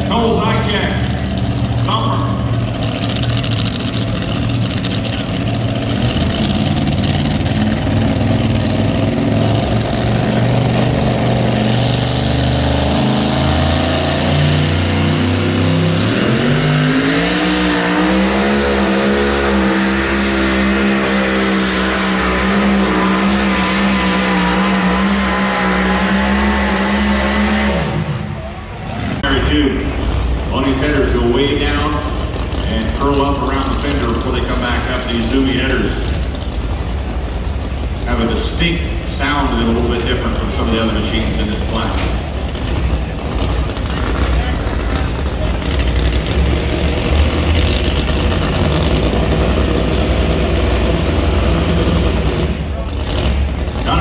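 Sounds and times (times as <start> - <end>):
engine running at full throttle: 0.0 - 54.0.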